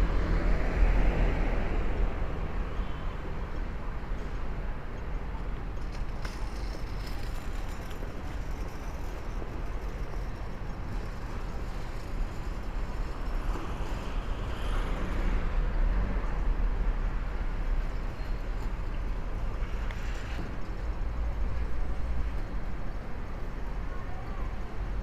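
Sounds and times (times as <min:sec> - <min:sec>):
city street noise: 0:00.0 - 0:25.0
low street rumble: 0:00.0 - 0:25.0.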